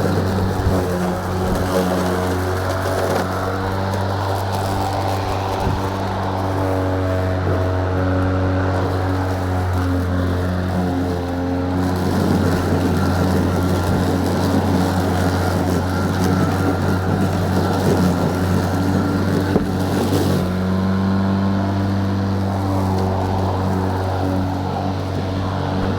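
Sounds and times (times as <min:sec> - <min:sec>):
lawnmower humming: 0:00.0 - 0:25.9.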